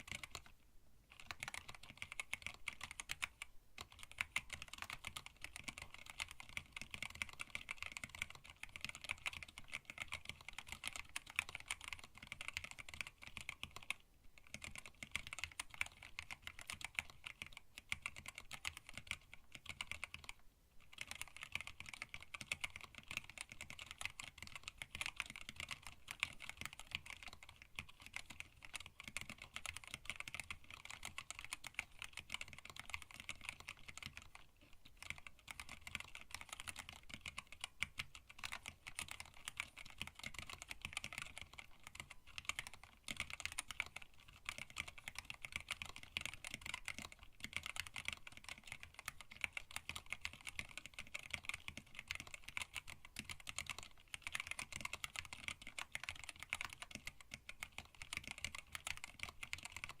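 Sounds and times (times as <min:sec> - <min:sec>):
mechanical keyboard typing: 0:00.0 - 0:00.5, 0:01.1 - 1:00.0.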